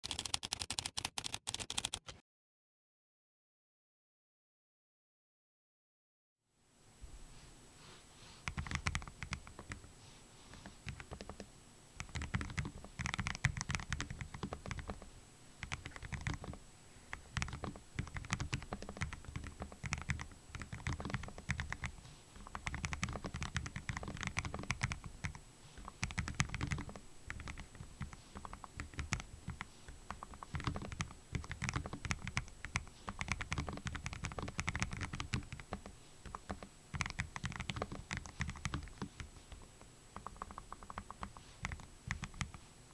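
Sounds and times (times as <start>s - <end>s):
mechanical keyboard typing: 0.0s - 2.2s, 8.5s - 9.8s, 10.6s - 42.6s.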